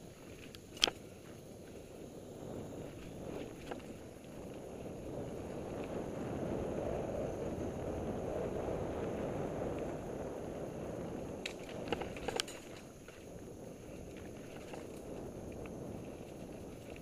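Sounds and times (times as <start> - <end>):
bike tyres rumbling on dirt trail: 0.0 - 17.0
faint ticks and rattles: 0.0 - 17.0
wind buffeting microphone: 0.0 - 17.0.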